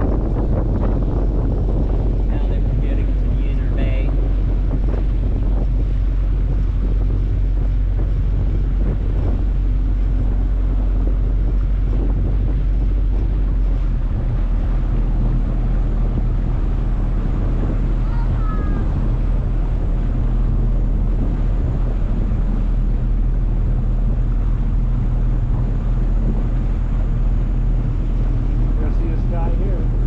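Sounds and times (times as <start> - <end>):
motorboat engine humming: 0.0 - 30.0
water washing past hull: 0.0 - 30.0
wind buffeting microphone: 0.0 - 30.0.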